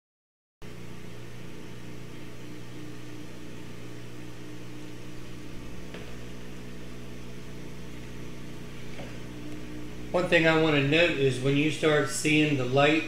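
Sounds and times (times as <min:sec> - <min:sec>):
air pump humming: 0:00.7 - 0:13.0
laser engraver running: 0:00.7 - 0:13.0.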